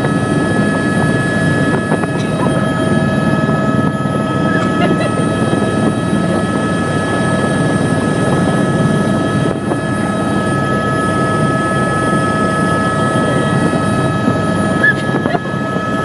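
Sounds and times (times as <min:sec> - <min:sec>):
helicopter engine and rotor drone: 0:00.0 - 0:16.0
high whine: 0:00.0 - 0:16.0.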